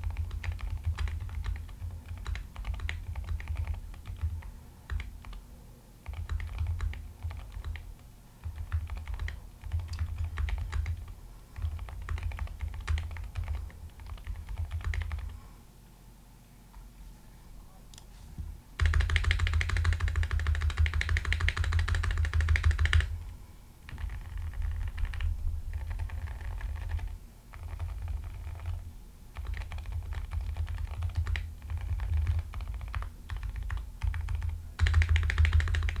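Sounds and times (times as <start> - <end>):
mechanical keyboard typing: 0.0 - 5.4, 6.0 - 15.4, 18.8 - 23.2, 23.9 - 28.8, 29.4 - 36.0.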